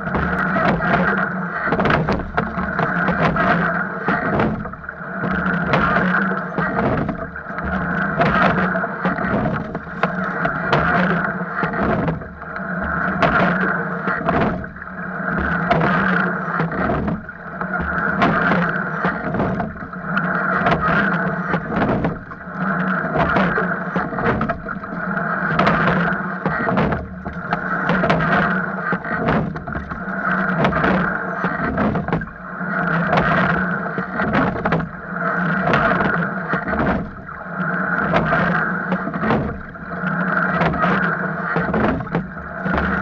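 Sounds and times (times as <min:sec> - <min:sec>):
oars knocking in oarlocks: 0:00.0 - 0:43.0
water rushing along hull: 0:00.0 - 0:43.0.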